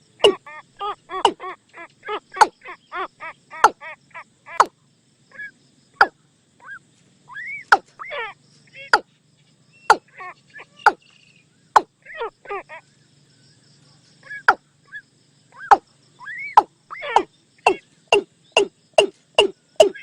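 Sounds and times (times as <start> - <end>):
watercock calls: 0.0 - 9.1, 9.8 - 12.8, 14.2 - 20.0.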